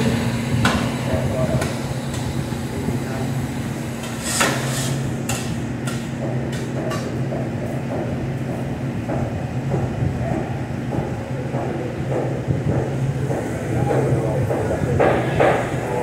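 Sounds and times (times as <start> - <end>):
exhaust hood fan drone: 0.0 - 16.0.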